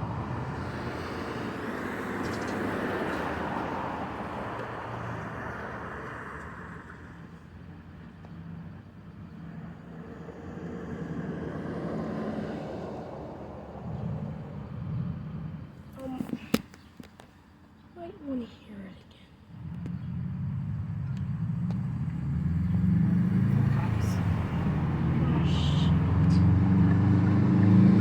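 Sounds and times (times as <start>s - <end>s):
second vehicle approaching: 0.0s - 17.2s, 19.4s - 28.0s
car passing tyre and engine noise: 0.0s - 17.8s, 19.4s - 28.0s.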